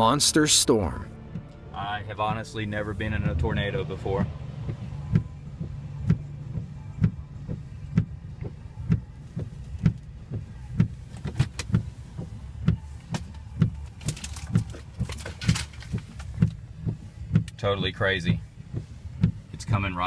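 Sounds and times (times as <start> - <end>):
low rumble in truck cab: 0.0 - 20.0
windshield wipers thumping: 0.0 - 20.0.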